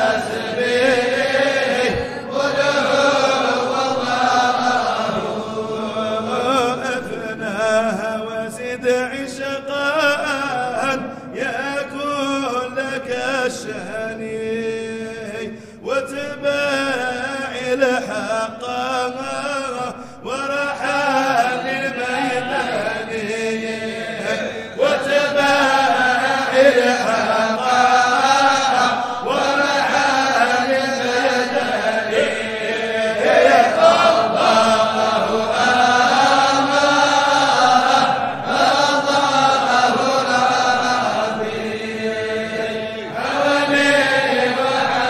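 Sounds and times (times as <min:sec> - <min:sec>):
person chanting: 0:00.0 - 0:45.0.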